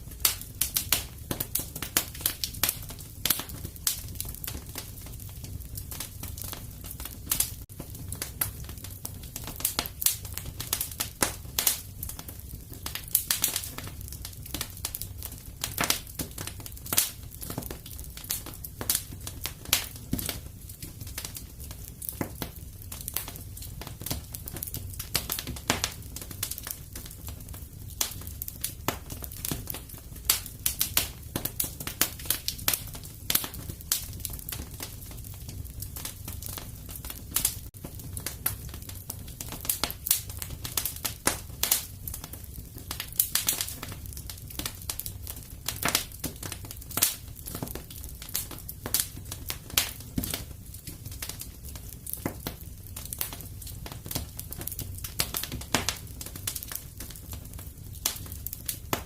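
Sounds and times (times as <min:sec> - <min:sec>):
low rumble of flame: 0:00.0 - 0:59.0
wood fire crackling: 0:00.0 - 0:59.0.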